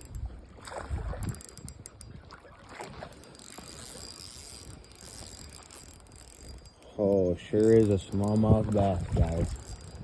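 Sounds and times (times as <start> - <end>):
fishing reel clicking and whirring: 0.0 - 10.0.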